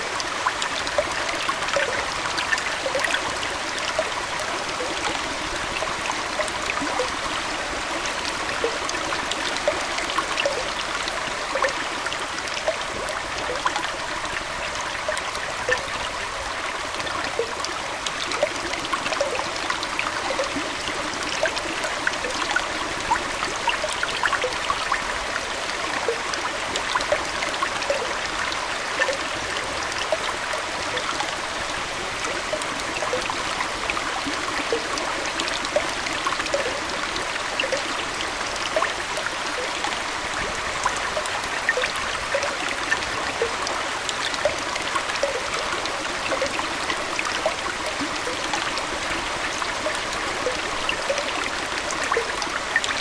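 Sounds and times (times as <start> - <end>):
aquarium water trickling: 0.0 - 53.0
water dripping and bubbling: 0.0 - 53.0.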